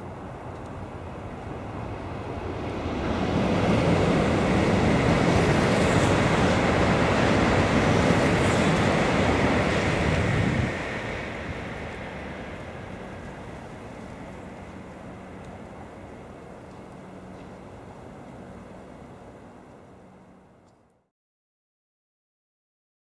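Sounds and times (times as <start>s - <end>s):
bullet train passing: 0.0s - 21.0s.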